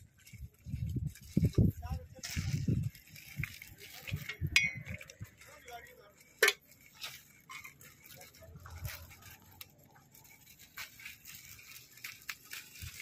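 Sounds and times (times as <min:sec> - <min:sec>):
granules pattering onto soil: 0:00.0 - 0:13.0
plastic packets crinkling: 0:00.0 - 0:13.0
sharp crackle: 0:00.0 - 0:13.0.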